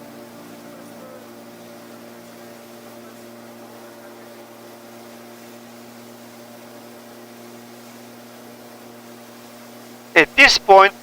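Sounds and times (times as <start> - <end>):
gyroplane engine droning: 0.0 - 9.2.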